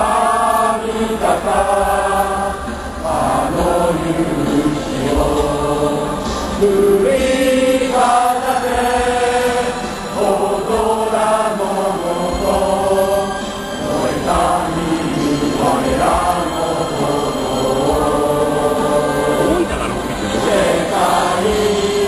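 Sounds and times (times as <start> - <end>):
football crowd chanting: 0.0 - 22.0.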